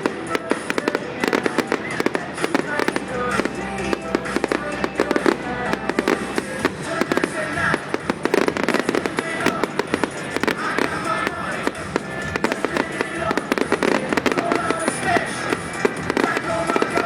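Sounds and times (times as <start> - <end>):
fireworks crackling and popping: 0.0 - 17.0
music playing: 0.0 - 17.0.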